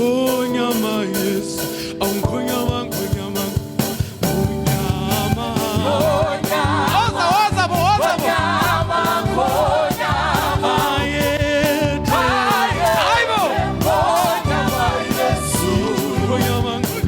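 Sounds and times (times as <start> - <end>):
band with steady drum beat: 0.0 - 17.0
voices singing gospel: 0.0 - 17.0.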